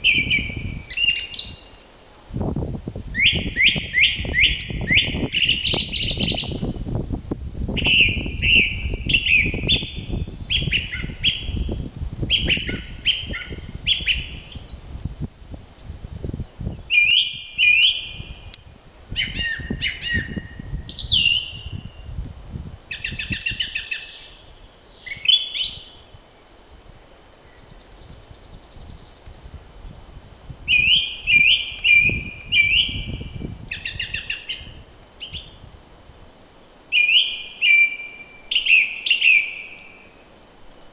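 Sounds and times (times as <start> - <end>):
songbirds chirping: 0.0 - 2.6, 3.2 - 29.7, 30.4 - 40.9
wind gusts rumbling: 0.0 - 23.9, 26.7 - 36.4.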